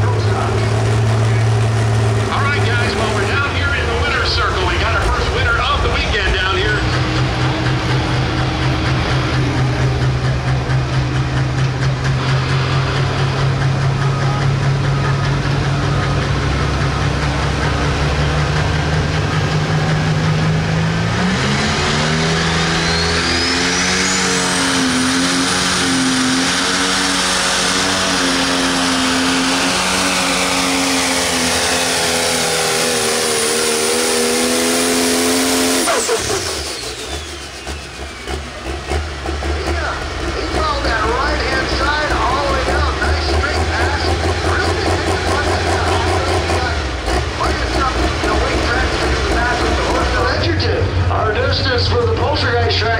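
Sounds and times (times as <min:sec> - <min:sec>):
diesel engine revving: 0:00.0 - 0:52.9
turbo whine: 0:01.2 - 0:17.0, 0:20.5 - 0:50.5.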